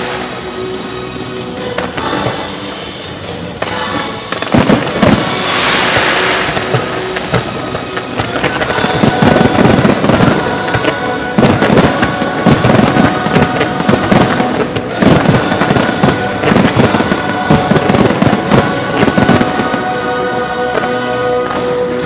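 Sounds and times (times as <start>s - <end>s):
music with held notes: 0.0s - 22.0s
fireworks bangs: 1.7s - 2.7s, 3.5s - 22.0s.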